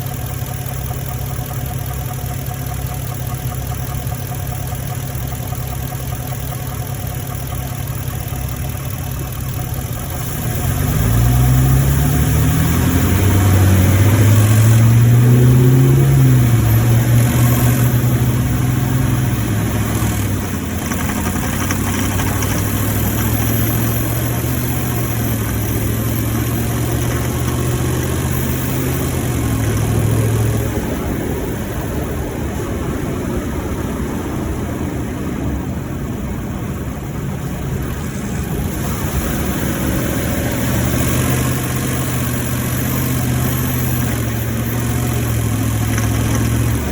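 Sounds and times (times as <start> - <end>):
road noise rumble: 0.0 - 46.9
truck engine running: 0.0 - 46.9.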